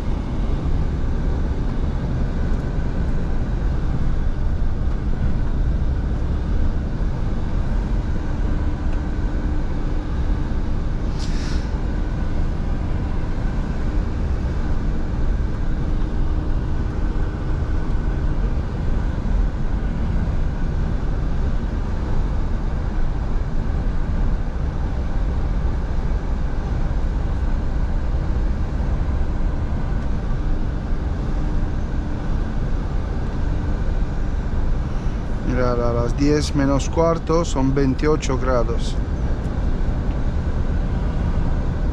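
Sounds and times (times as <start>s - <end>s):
road noise: 0.0s - 23.0s, 25.6s - 41.9s
truck engine drone: 0.0s - 41.9s.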